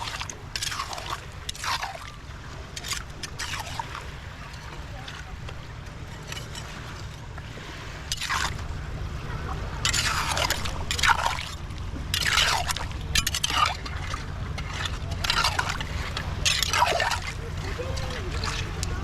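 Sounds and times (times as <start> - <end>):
digging in wet mud: 0.0 - 8.9, 9.6 - 19.0.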